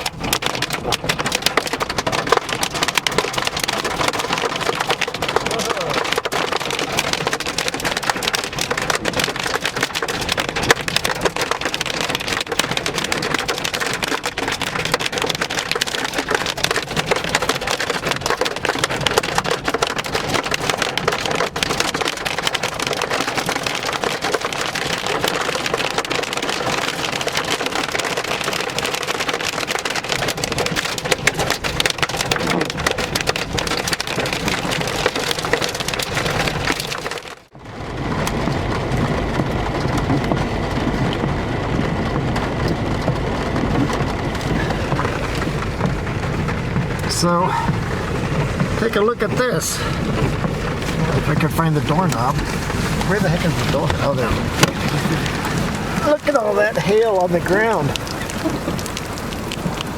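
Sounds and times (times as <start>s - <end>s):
hail pelting a vehicle: 0.0s - 59.9s.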